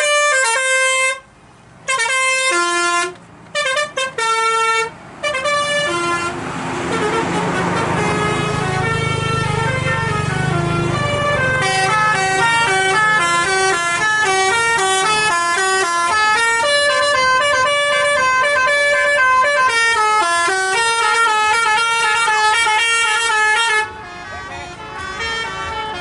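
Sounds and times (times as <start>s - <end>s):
musical bus air horn melody: 0.0s - 26.0s
low engine rumble: 3.1s - 26.0s.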